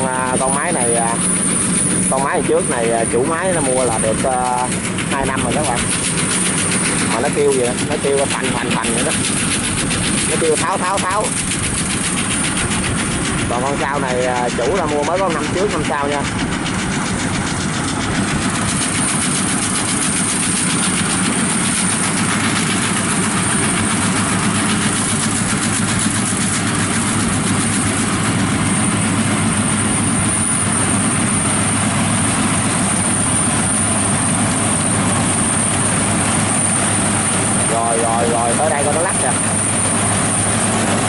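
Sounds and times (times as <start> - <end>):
combine harvester machinery rattle: 0.0 - 41.0
high whine: 0.0 - 41.0.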